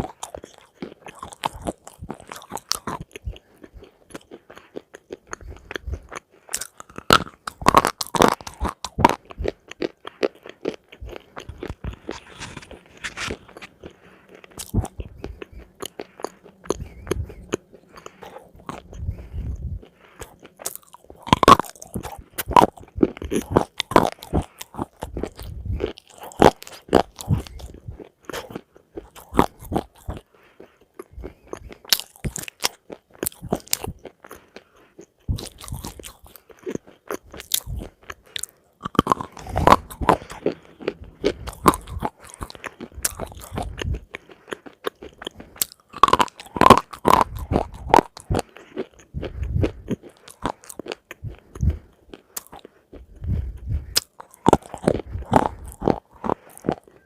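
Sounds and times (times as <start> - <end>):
chewing crunchy food: 0.0 - 57.0.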